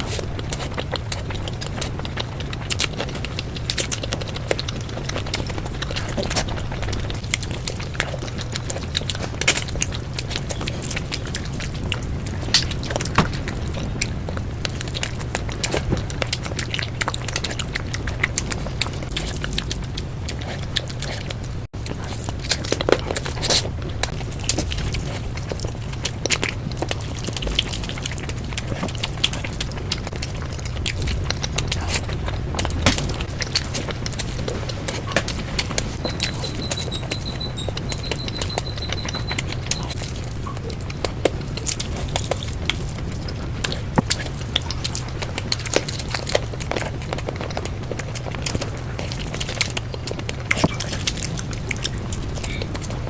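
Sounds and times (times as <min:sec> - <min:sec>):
close chewing and mouth sounds: 0:00.0 - 0:53.0.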